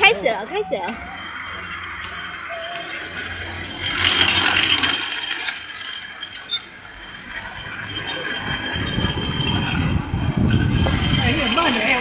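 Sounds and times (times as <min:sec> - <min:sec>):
metal rollers clattering: 0:00.0 - 0:12.0.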